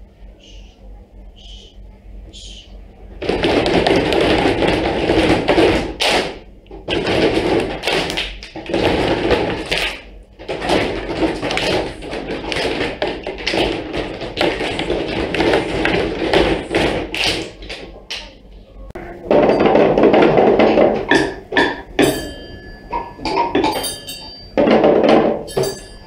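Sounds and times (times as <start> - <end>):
children drumming hands on desks: 3.2 - 18.4, 19.2 - 26.0.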